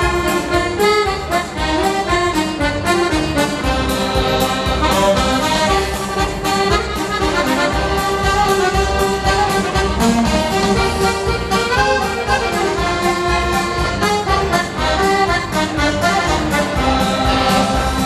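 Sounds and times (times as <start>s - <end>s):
live dance band playing: 0.0s - 18.0s.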